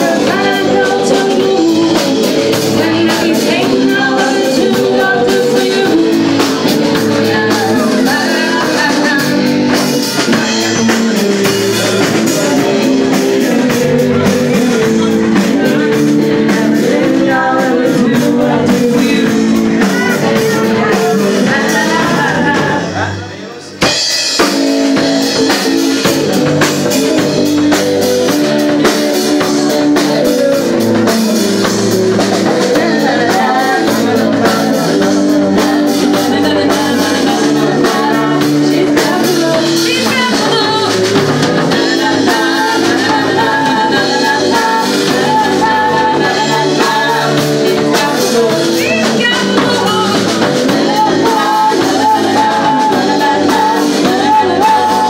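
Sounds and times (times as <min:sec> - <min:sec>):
woman singing: 0:00.0 - 0:23.1, 0:24.4 - 0:55.0
drum kit: 0:00.0 - 0:55.0
electric guitars: 0:00.0 - 0:55.0.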